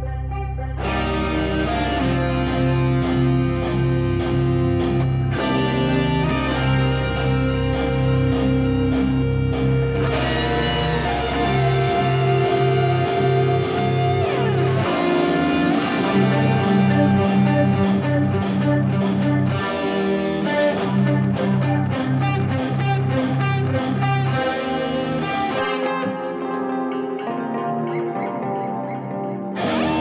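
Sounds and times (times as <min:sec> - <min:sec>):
guitar background music: 0:00.0 - 0:30.0.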